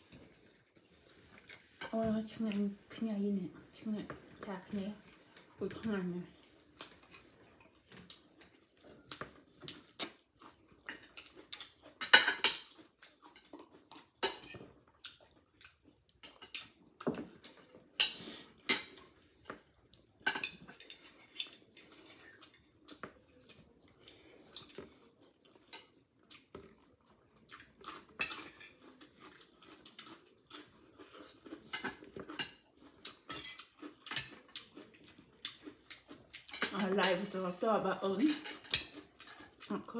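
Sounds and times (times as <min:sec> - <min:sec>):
chewing: 0:00.0 - 0:02.8, 0:06.2 - 0:37.4, 0:38.3 - 0:39.9.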